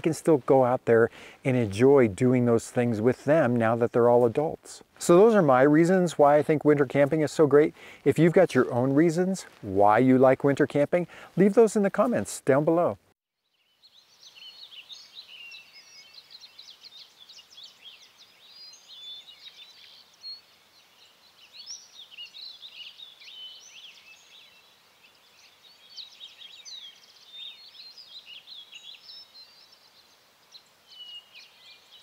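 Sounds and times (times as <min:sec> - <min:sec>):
faint outdoor background noise: 0:00.0 - 0:32.0
small birds chirping: 0:00.0 - 0:32.0.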